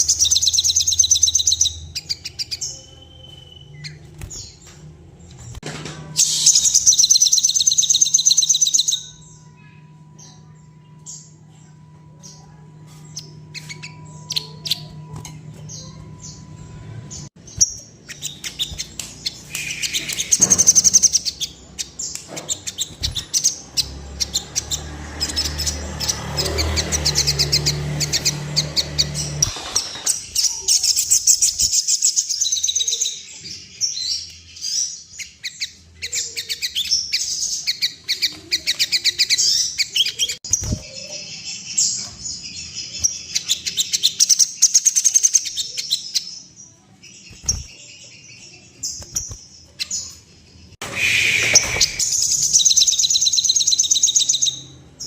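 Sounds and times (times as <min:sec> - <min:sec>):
bird singing high chattering notes: 0:00.0 - 0:04.7, 0:06.2 - 0:46.5, 0:47.1 - 0:55.0.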